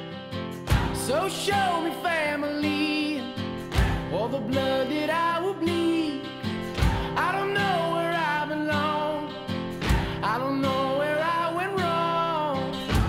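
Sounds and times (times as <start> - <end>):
guitar: 0.0 - 13.0
person singing: 0.7 - 13.0.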